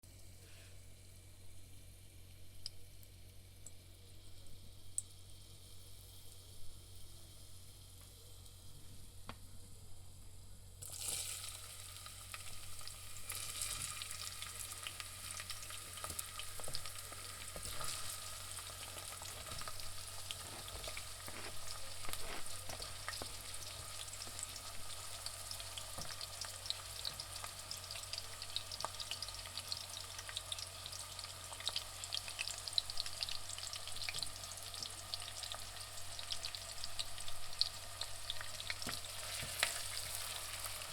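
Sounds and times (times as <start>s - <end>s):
onions sizzling in hot oil: 1.8s - 8.7s, 10.6s - 40.9s.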